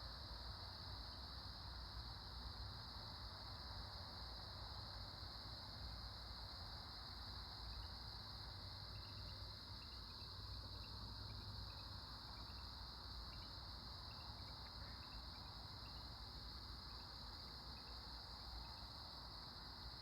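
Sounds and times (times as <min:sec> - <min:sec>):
cricket chirps: 0:00.0 - 0:20.0
cricket trilling: 0:03.0 - 0:20.0.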